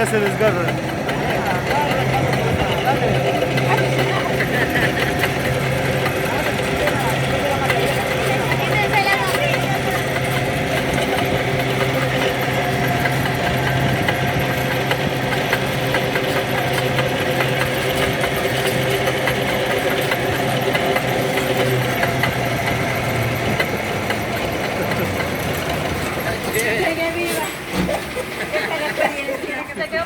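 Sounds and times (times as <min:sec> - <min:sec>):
gasoline engine humming: 0:00.0 - 0:30.0.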